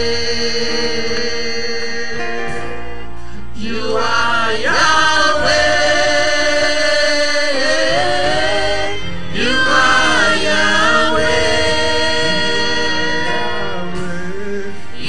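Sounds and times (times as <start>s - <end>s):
held instrumental chords: 0.0s - 15.0s
person singing with sliding notes: 0.0s - 15.0s.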